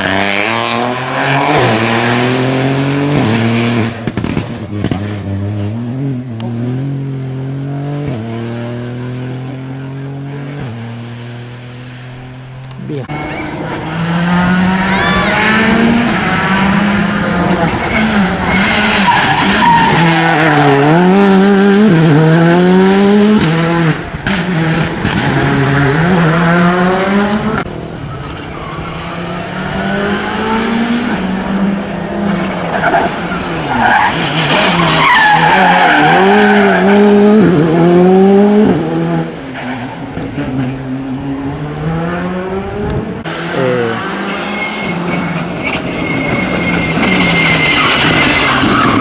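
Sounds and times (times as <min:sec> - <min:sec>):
rally cars passing at full throttle: 0:00.0 - 0:49.0.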